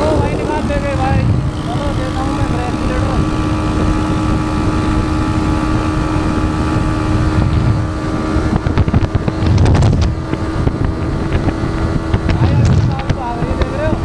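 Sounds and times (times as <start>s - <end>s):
motorcycle engine at high cruise: 0.0s - 14.0s
wind rushing over microphone: 0.0s - 14.0s.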